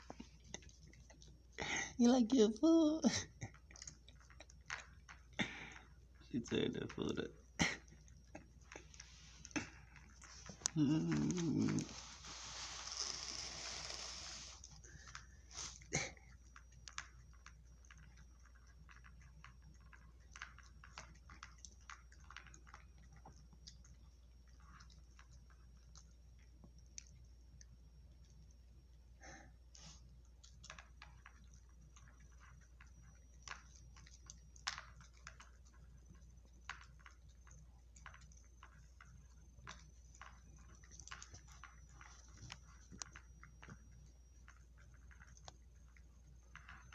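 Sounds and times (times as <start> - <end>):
dog crunching food: 0.0 - 1.5, 3.3 - 28.4, 29.7 - 46.9.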